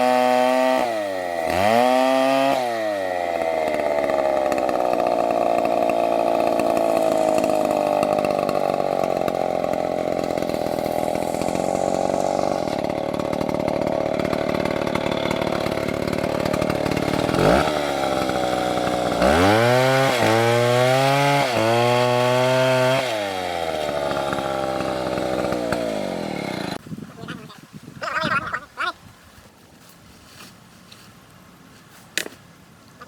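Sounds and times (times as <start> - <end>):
chainsaw engine revving: 0.0 - 26.8.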